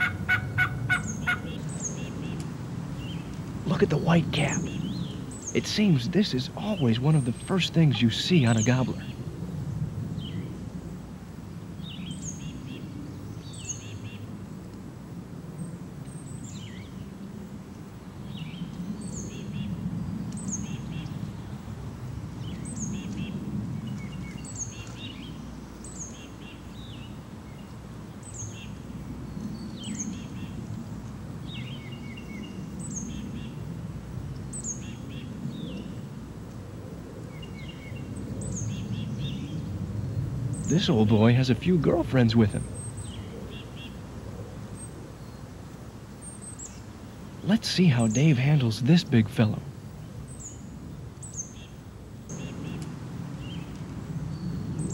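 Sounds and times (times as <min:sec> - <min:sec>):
songbird singing: 0:00.0 - 0:14.8, 0:15.5 - 0:36.6, 0:37.2 - 0:54.9.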